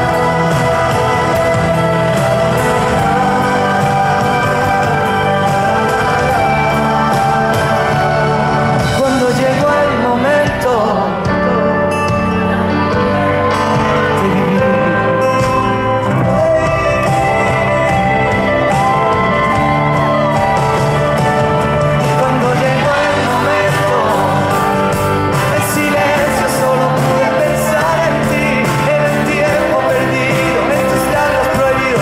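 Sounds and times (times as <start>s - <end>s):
pop song with band and singing: 0.0s - 32.0s.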